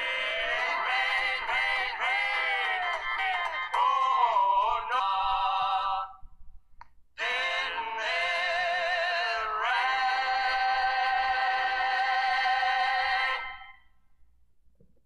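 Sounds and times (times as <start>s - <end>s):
man singing with vibrato: 0.0s - 6.2s, 7.2s - 13.8s.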